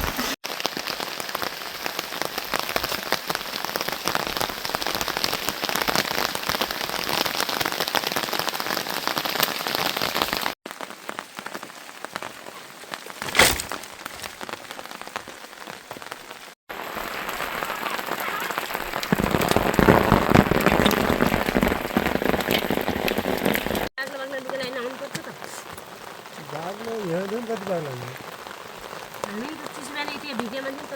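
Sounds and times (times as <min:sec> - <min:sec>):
rain pattering: 0:00.0 - 0:30.9.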